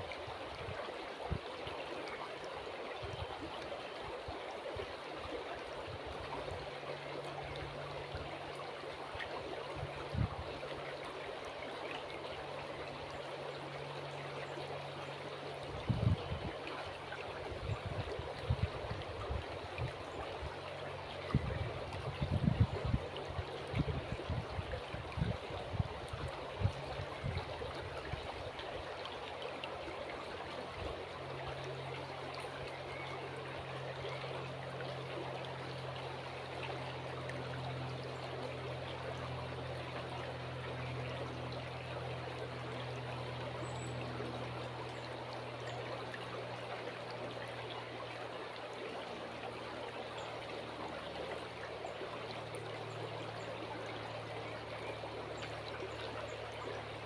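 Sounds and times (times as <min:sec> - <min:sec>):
low steady hum: 0:00.0 - 0:57.0
river water flowing: 0:00.0 - 0:57.0.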